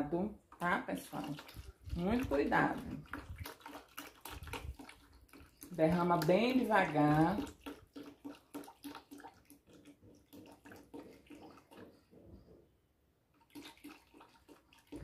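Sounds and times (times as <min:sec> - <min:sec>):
oil glugging from bottle: 0:01.0 - 0:12.2, 0:13.3 - 0:15.0.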